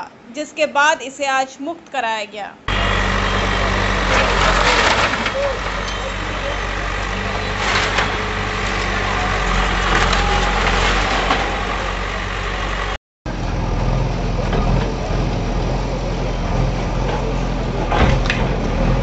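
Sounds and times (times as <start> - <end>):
diesel engine running: 2.7 - 19.0.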